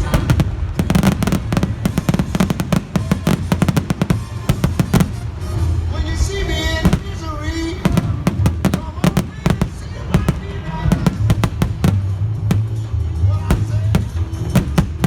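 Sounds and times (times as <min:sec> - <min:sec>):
fireworks bursting: 0:00.0 - 0:15.0
music with low bass: 0:00.0 - 0:15.0.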